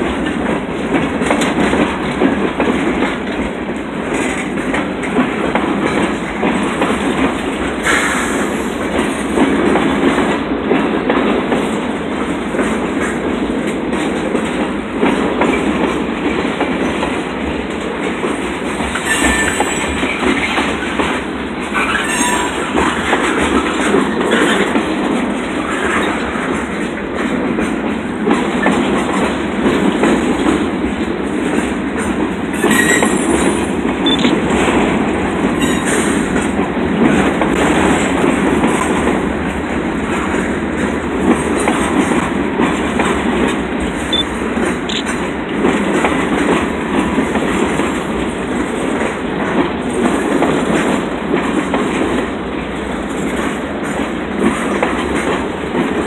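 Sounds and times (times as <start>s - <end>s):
freight train rumbling and rattling: 0.0s - 56.0s.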